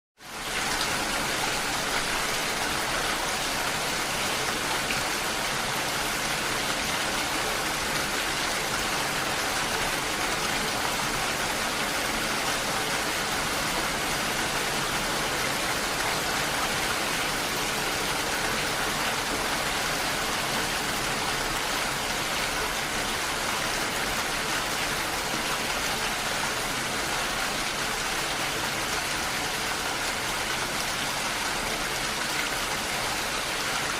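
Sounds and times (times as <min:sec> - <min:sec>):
steady rainfall: 0:00.2 - 0:33.9.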